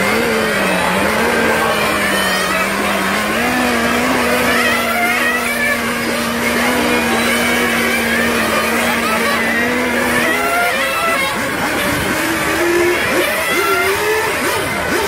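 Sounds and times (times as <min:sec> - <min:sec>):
model car engines whining: 0:00.0 - 0:15.0.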